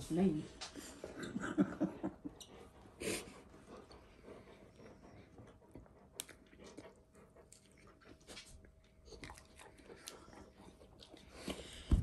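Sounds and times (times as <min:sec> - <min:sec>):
faint chewing of food: 0:02.3 - 0:12.0.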